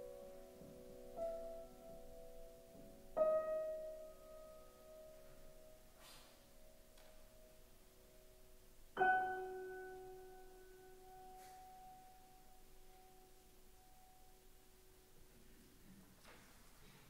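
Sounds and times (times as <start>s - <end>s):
piano chord ringing: 0.0s - 14.6s.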